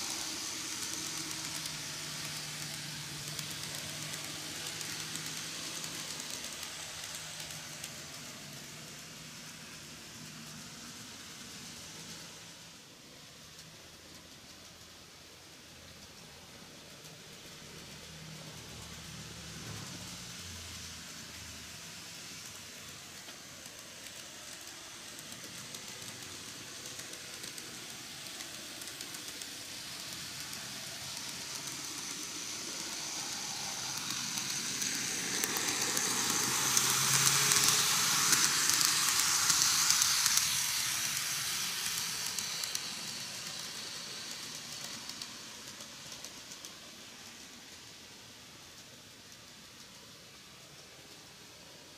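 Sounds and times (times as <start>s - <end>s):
model train wheels rattling: 0.0s - 51.9s.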